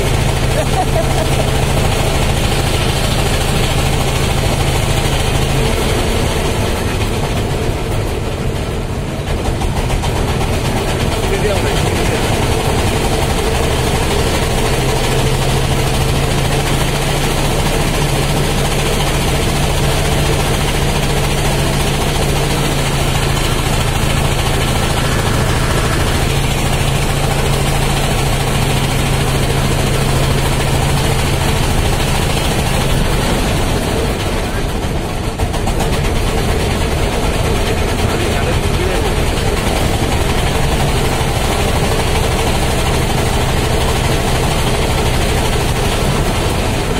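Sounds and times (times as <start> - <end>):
boat engine droning: 0.0 - 46.9
rushing noise: 0.0 - 46.9.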